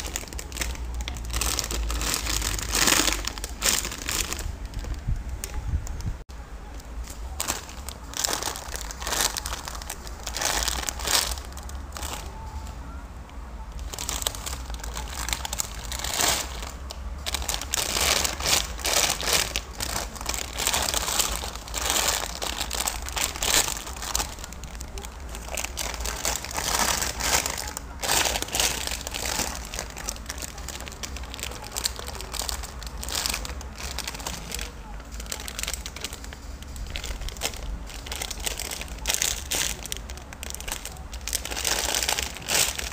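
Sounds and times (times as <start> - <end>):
plastic packaging crinkling: 0.0 - 12.7, 13.6 - 42.9
low steady hum: 0.0 - 42.9.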